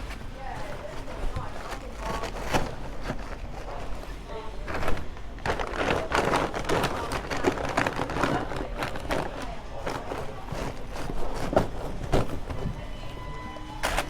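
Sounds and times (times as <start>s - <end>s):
chatter of many people: 0.0s - 14.0s.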